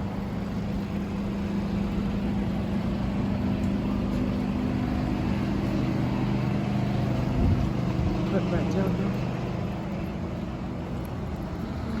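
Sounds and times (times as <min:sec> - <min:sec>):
motor vehicle engine hum: 0:00.0 - 0:12.0
street traffic: 0:00.0 - 0:12.0.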